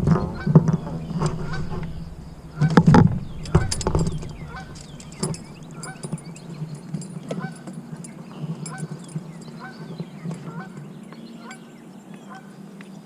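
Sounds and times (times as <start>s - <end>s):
fishing tackle knocking and clattering: 0.0s - 10.9s.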